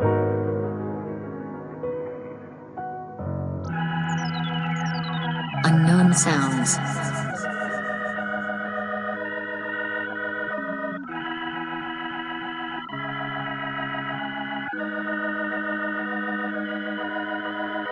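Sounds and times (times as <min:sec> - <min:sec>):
sustained organ chords: 0:00.0 - 0:17.9.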